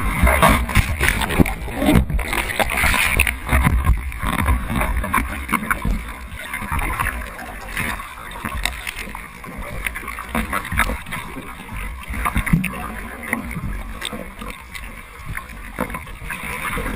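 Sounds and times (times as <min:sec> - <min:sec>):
sea water sloshing: 0:00.0 - 0:16.9.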